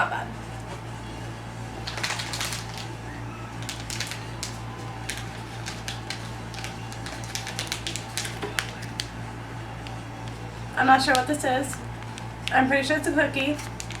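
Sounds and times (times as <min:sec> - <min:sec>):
plastic packaging crinkling: 0:01.8 - 0:14.0.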